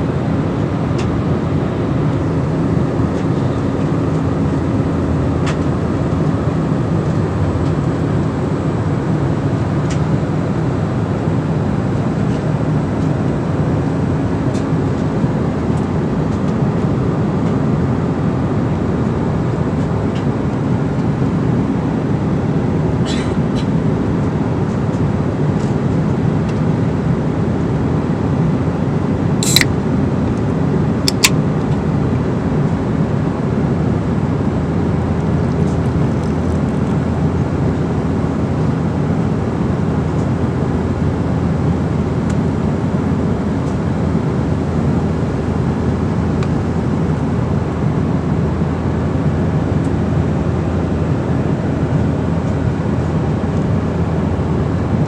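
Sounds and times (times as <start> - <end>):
jet cabin drone: 0.0 - 55.0.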